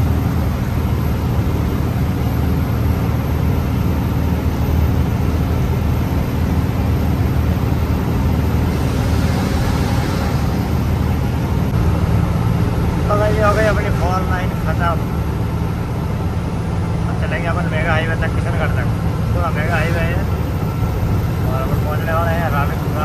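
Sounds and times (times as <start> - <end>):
road noise: 0.0 - 23.0
truck engine drone: 0.0 - 23.0.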